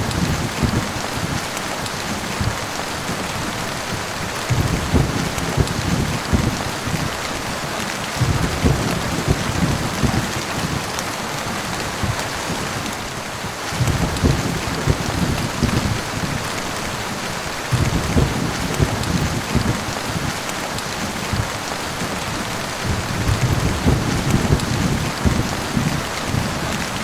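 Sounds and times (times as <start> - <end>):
heavy rain falling: 0.0 - 27.0
thunder rumbling: 0.0 - 27.0.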